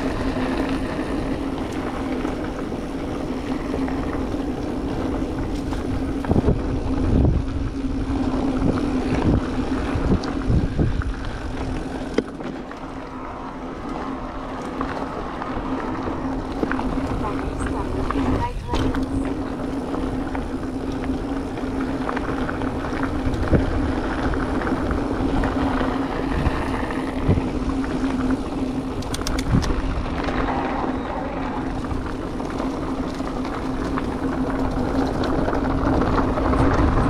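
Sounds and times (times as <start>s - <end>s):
wind on microphone: 0.0s - 12.2s, 13.0s - 37.0s
electric bike motor hum: 0.0s - 37.0s
tyre rolling noise: 0.0s - 37.0s.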